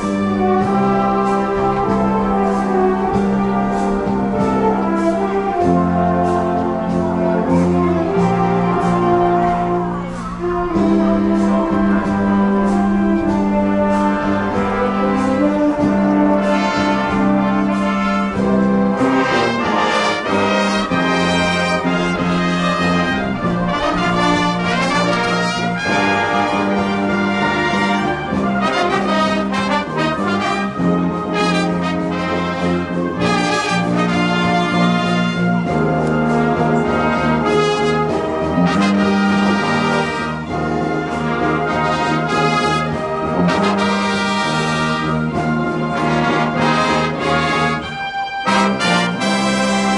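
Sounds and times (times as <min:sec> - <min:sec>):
driving drum beat: 0:00.0 - 0:47.7
brass chords: 0:00.0 - 0:49.9.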